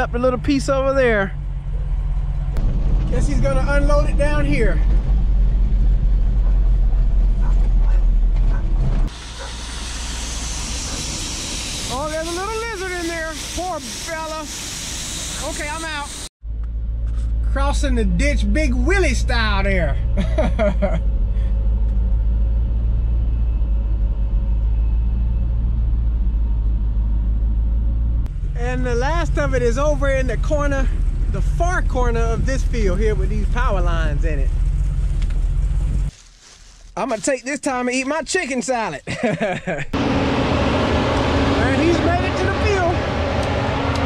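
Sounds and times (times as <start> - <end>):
truck engine running: 0.0 - 36.1, 39.2 - 44.0.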